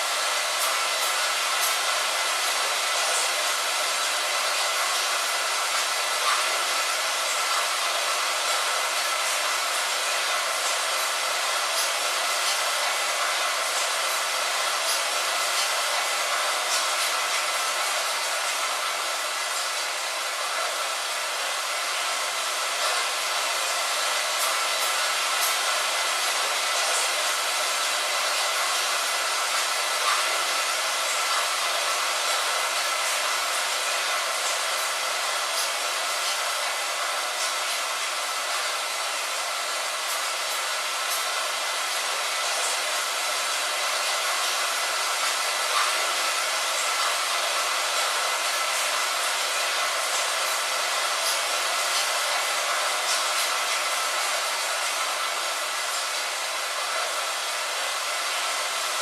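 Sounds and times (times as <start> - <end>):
light rain on a window: 0.0 - 59.0.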